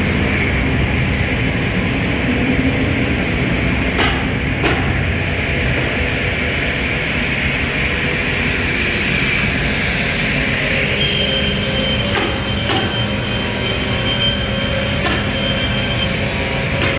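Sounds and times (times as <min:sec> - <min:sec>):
machine rumble and hiss: 0:00.0 - 0:16.9
steady high whine: 0:00.0 - 0:16.9.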